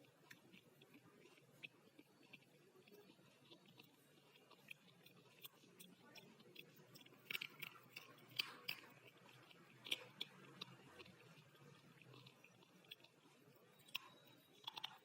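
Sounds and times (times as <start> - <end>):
person chewing crunching slate: 0.0 - 15.0.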